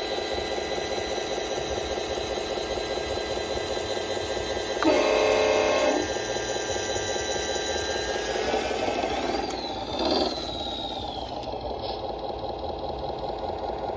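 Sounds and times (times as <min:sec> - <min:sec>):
motor whine: 0:00.0 - 0:13.9
toy truck motor drone: 0:00.0 - 0:13.9.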